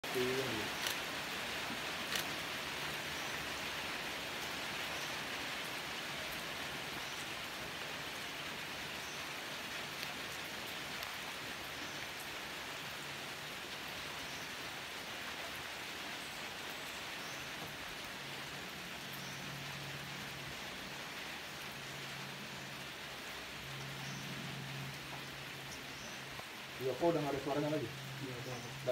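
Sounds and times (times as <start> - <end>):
rainforest hiss: 0.0 - 28.9.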